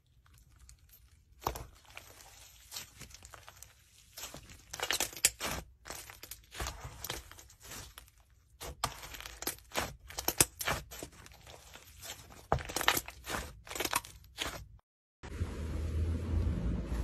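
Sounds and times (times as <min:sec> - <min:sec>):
sticky slime crackles and pops: 0:00.1 - 0:14.6.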